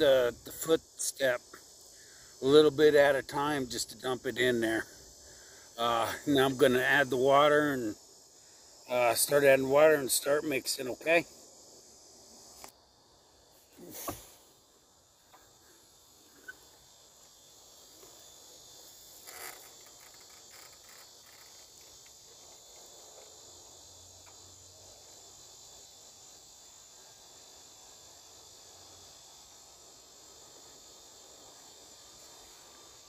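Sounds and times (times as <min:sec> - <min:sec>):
insects chirping in grass: 0:00.0 - 0:33.0.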